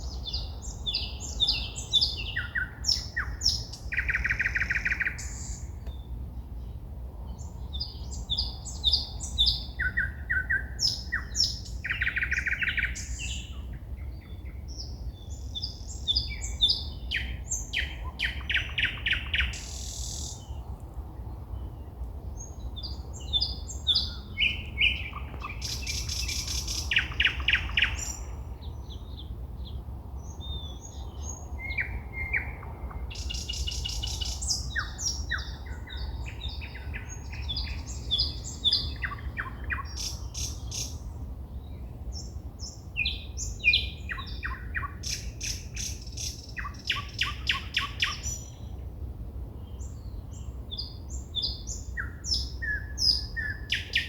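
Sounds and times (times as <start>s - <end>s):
songbird singing whistles and trills: 0.0s - 6.1s, 7.7s - 20.6s, 22.8s - 28.3s, 30.4s - 41.0s, 42.2s - 48.6s, 49.6s - 54.0s.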